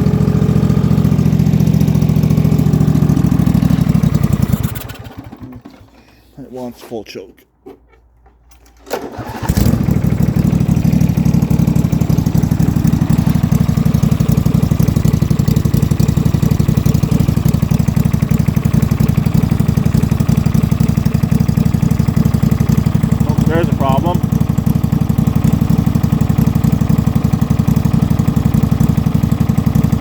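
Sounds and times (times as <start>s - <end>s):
mower engine cranking and running: 0.0s - 6.4s, 7.6s - 30.0s.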